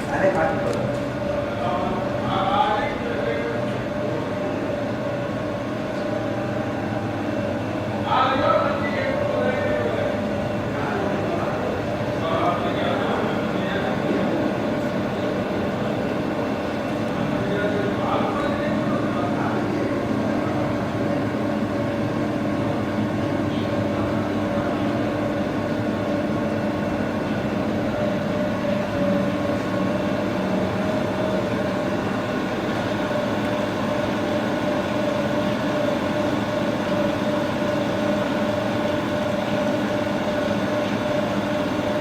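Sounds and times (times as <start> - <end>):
lathe motor humming and whining: 0.0 - 42.0.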